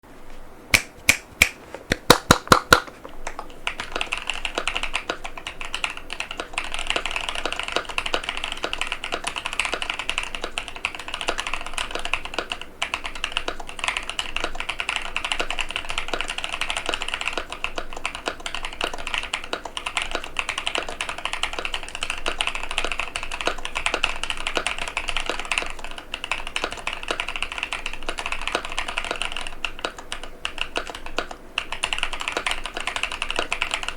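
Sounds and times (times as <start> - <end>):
mechanical keyboard typing: 1.9 - 33.9.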